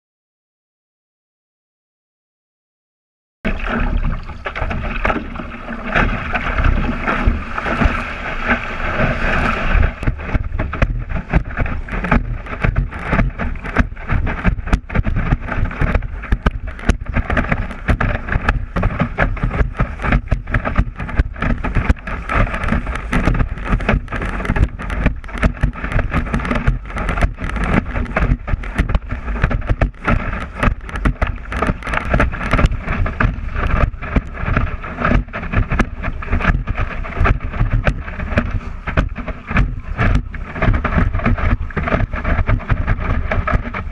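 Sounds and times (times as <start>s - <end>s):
board slapping on waves: 3.5s - 43.9s
wind rushing on microphone: 3.5s - 43.9s.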